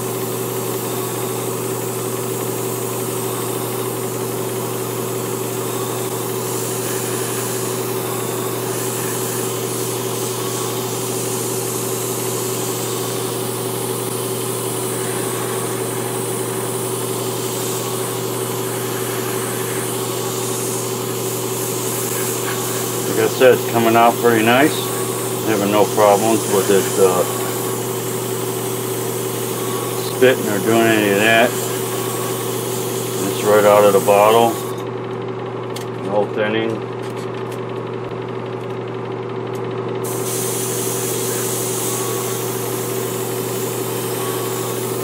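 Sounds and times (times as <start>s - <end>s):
airbrush spraying hiss: 0.0s - 34.8s, 40.0s - 45.0s
compressor motor humming: 0.0s - 45.0s.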